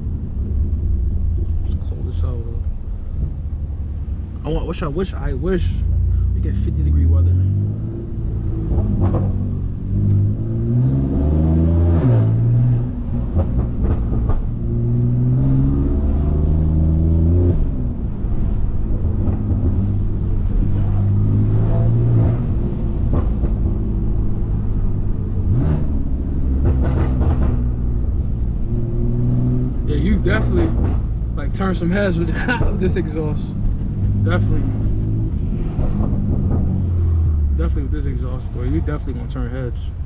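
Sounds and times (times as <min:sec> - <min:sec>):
car engine and exhaust driving: 0:00.0 - 0:40.0.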